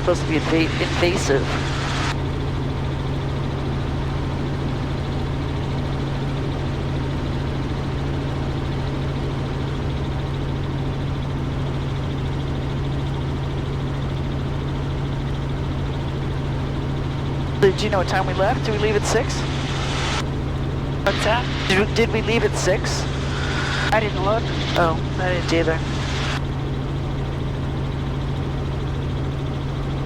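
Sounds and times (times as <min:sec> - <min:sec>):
helicopter rotors and engine drone: 0:00.0 - 0:30.0.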